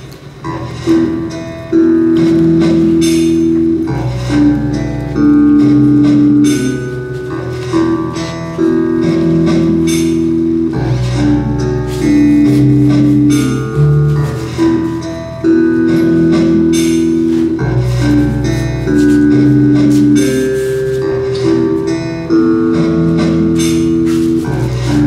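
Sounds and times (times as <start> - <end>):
instrumental music: 0.0 - 25.0.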